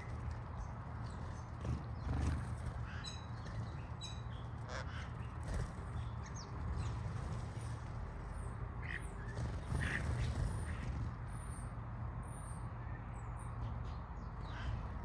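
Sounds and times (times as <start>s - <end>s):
birds calling and chirping: 0.0s - 15.0s.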